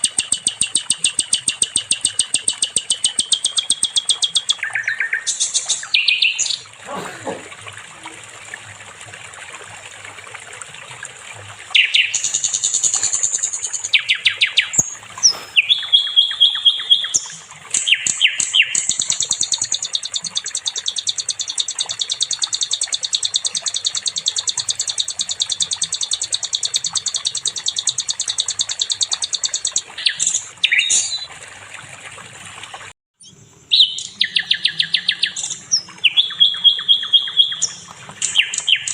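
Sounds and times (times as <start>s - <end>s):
songbird chirping and trilling: 0.0s - 6.7s, 11.8s - 31.3s, 33.2s - 38.9s.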